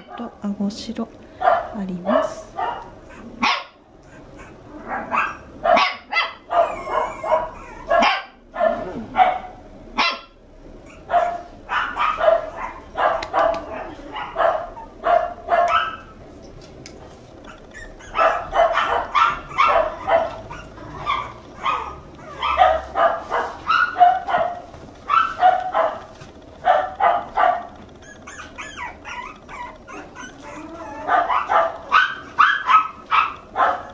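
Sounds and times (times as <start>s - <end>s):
puppy barking in high yips: 1.5s - 16.2s, 17.5s - 33.9s.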